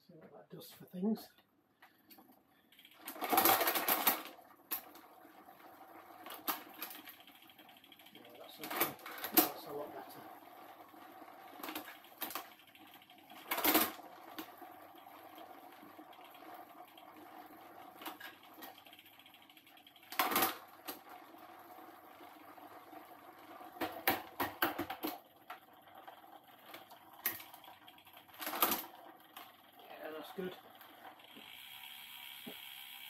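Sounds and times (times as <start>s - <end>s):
bike chain and gears running: 2.0s - 33.0s.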